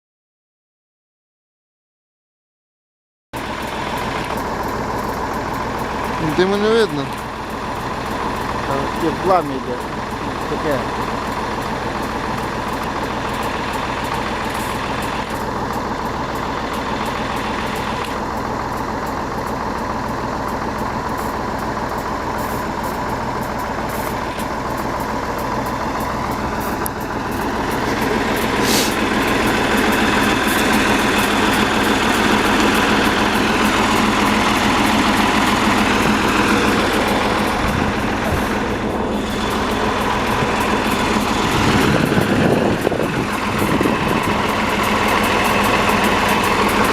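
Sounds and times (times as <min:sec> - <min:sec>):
tractor diesel engine running: 0:03.4 - 0:46.9.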